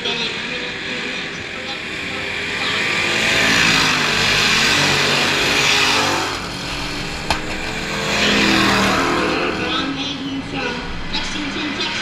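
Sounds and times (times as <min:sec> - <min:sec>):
race car engines at full throttle: 0:00.0 - 0:12.0.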